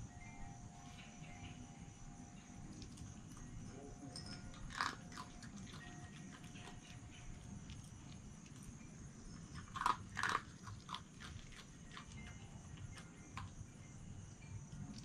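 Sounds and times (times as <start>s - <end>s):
fox chewing food: 2.4s - 15.0s.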